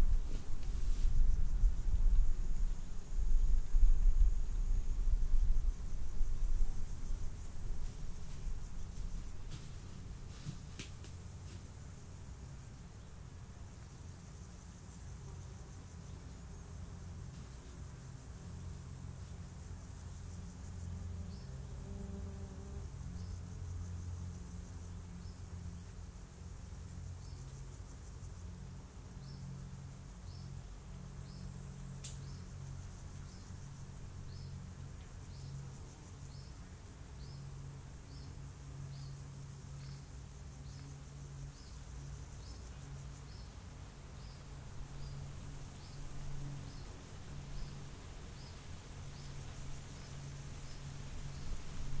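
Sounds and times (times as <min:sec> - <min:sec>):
insects trilling: 0:00.0 - 0:52.0.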